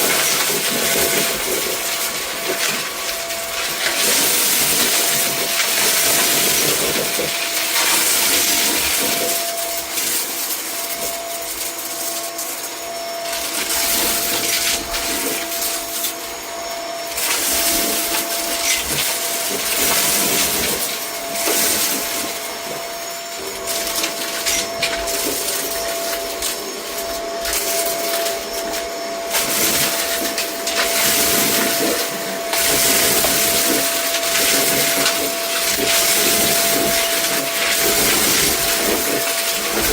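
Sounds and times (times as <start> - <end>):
debris clicking and rattling: 0.0 - 39.9
vacuum cleaner running: 0.0 - 39.9.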